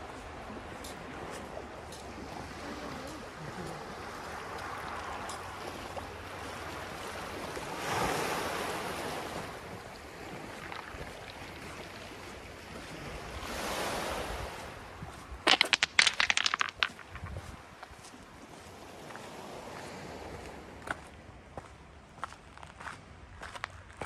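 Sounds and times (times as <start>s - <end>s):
small waves on shingle beach: 0.0s - 21.0s.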